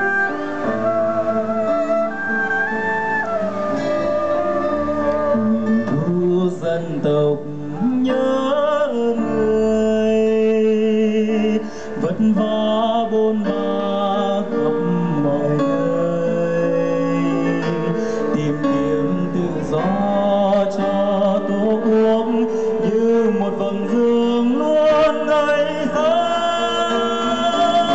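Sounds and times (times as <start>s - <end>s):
live band keyboards and guitar: 0.0s - 27.9s
man singing with vibrato: 5.0s - 27.9s.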